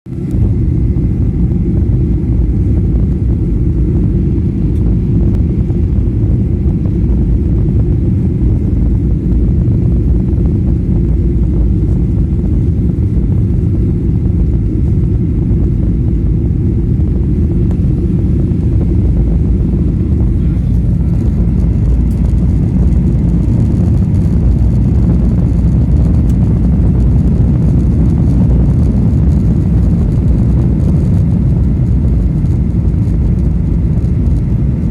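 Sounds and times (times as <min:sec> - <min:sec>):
airplane cabin engine rumble: 0:00.1 - 0:34.9.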